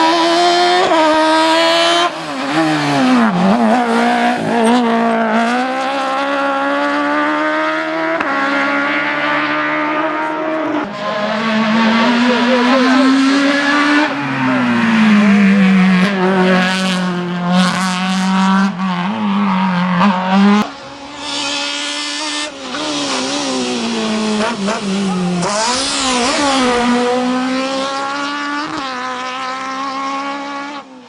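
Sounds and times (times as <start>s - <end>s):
race car engine running hard: 0.0s - 31.0s.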